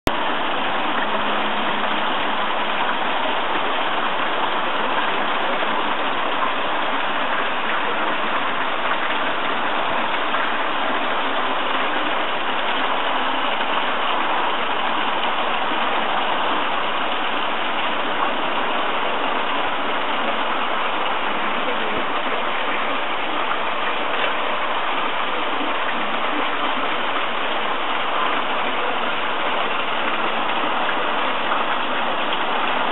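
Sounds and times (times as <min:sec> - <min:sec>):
falling water splashing: 0:00.1 - 0:32.9.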